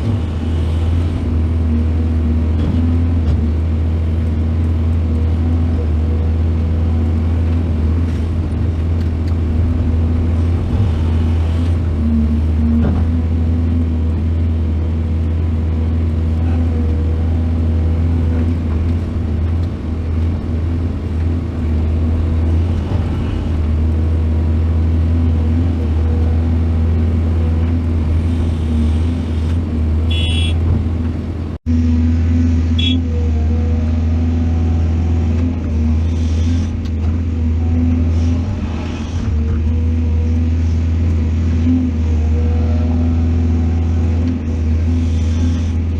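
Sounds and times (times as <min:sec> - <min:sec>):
excavator diesel engine rumble: 0:00.0 - 0:45.9.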